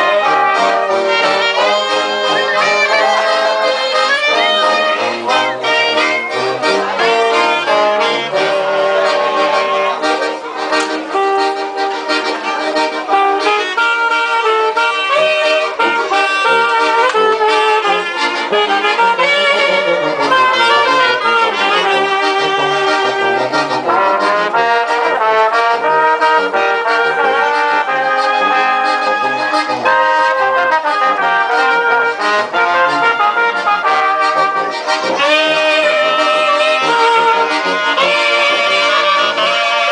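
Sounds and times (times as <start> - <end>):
instrumental brass music: 0.0 - 39.9.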